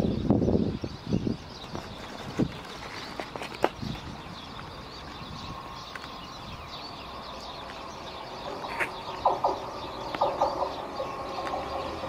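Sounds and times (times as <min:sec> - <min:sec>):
distant rail and traffic rumble: 0:00.0 - 0:12.0
small birds chirping: 0:00.0 - 0:12.0.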